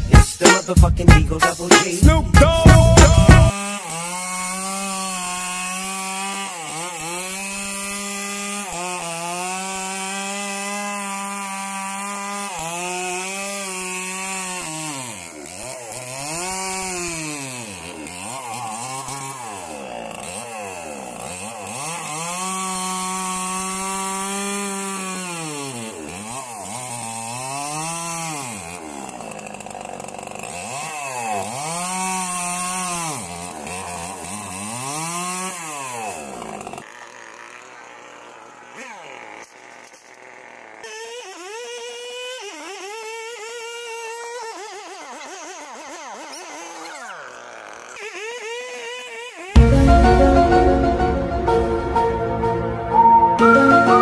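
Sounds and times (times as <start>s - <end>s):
chainsaw cutting wood: 0.0s - 52.1s.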